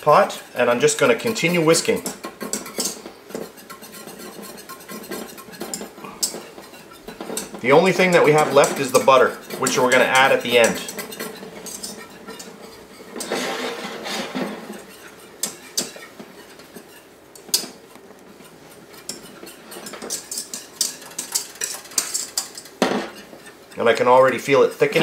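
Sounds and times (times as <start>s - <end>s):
whisk scraping a steel saucepan: 0.0s - 25.0s.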